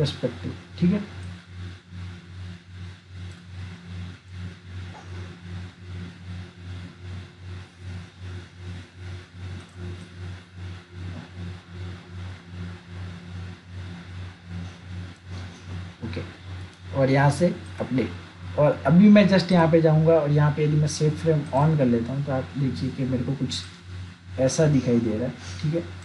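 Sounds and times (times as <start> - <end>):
pulsing mechanical hum: 0.0 - 26.0.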